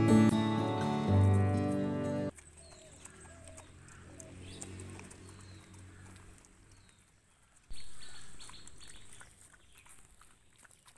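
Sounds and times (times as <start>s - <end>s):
birds chirping: 0.0s - 10.1s.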